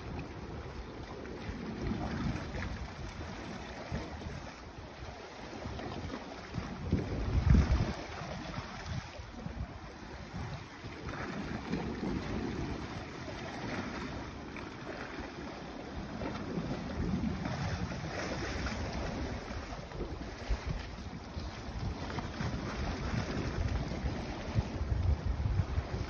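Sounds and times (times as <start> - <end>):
sea water washing: 0.0 - 26.0
wind buffeting microphone: 0.0 - 26.0.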